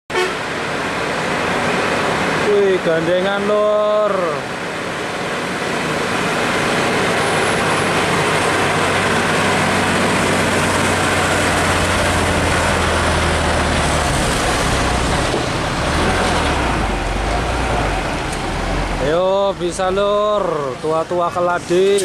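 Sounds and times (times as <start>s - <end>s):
diesel truck engine under load: 0.4s - 22.0s.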